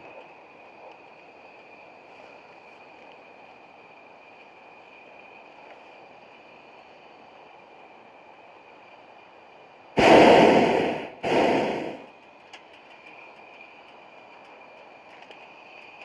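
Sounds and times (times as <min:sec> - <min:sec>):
propane burner blasts: 0:00.0 - 0:16.0.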